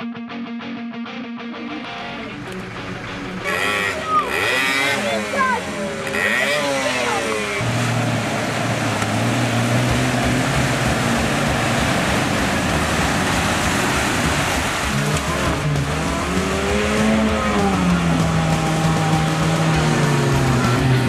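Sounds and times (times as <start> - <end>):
off-road vehicle engine revving: 2.3 - 21.0.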